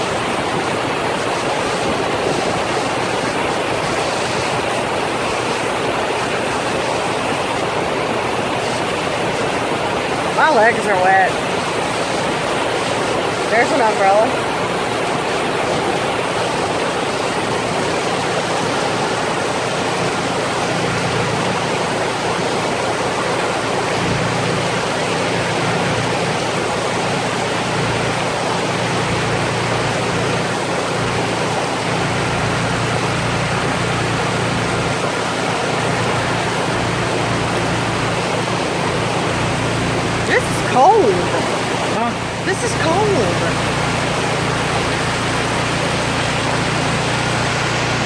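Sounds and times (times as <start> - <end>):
heavy rain pouring: 0.0 - 48.0.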